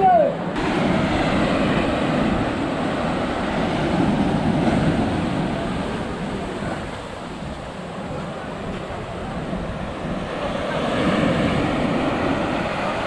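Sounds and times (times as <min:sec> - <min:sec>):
waves breaking on sandy beach: 0:00.0 - 0:13.0.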